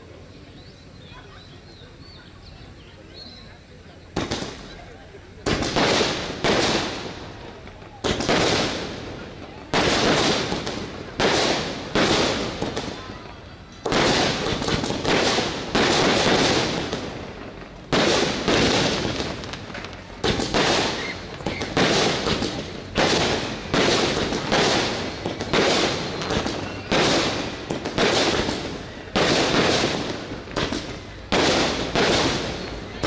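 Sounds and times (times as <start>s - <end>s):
fireworks bursting and hissing: 3.8s - 33.0s.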